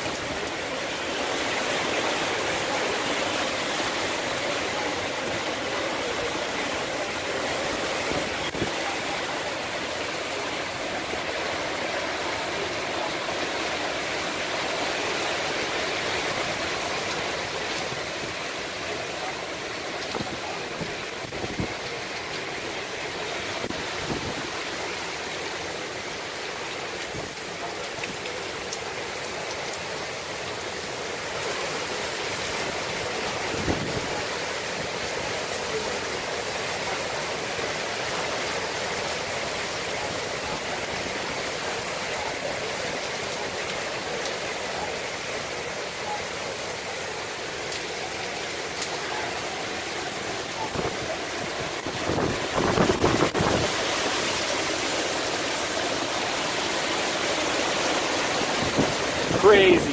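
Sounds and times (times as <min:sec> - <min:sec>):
driving rain: 0:00.0 - 0:59.9
hurricane wind: 0:00.0 - 0:59.9.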